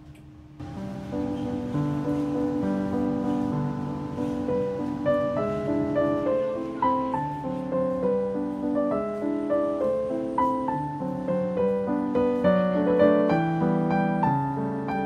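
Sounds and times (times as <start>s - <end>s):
piano music: 0.6s - 15.0s.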